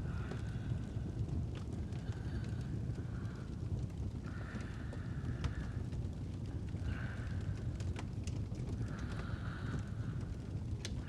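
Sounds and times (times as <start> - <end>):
soft breath: 0.0 - 7.9, 8.7 - 10.6
fireplace fire crackling: 0.0 - 11.0.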